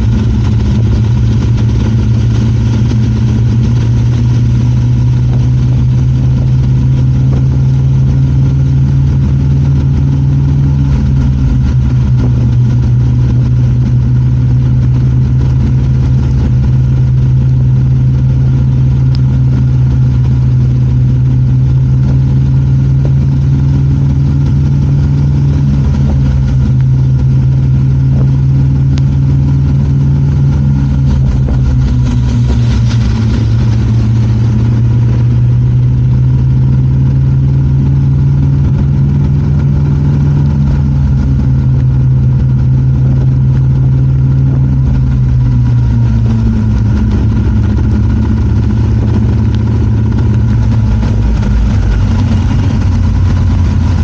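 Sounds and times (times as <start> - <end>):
hiss of rain and spray: 0.0 - 54.0
motorcycle engine running: 0.0 - 54.0.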